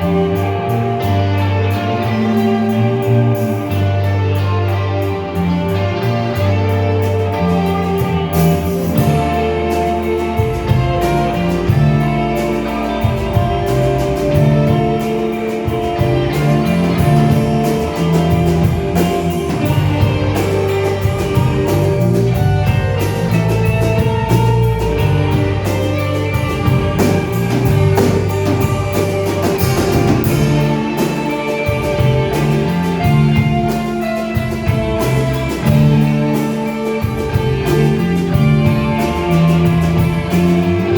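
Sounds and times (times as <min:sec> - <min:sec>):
drum kit beat: 0:00.0 - 0:40.9
guitars: 0:00.0 - 0:40.9.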